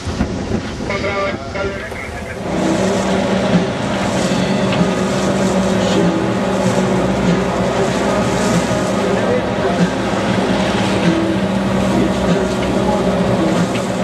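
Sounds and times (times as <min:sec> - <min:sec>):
boat engine humming: 0:00.0 - 0:14.0
rushing noise: 0:00.0 - 0:14.0.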